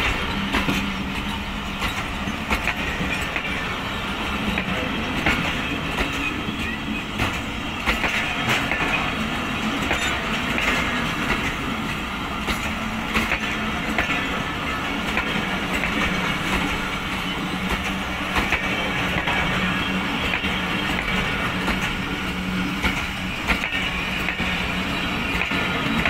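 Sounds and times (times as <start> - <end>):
wheels clicking over rail joints: 0.0 - 3.8, 4.4 - 26.0
train wheels rumbling on track: 0.0 - 26.0.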